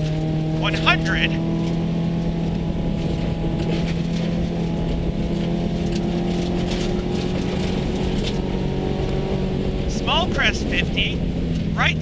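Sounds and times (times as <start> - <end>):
gravel road noise: 0.0 - 12.0
rally car engine at high revs: 0.0 - 12.0.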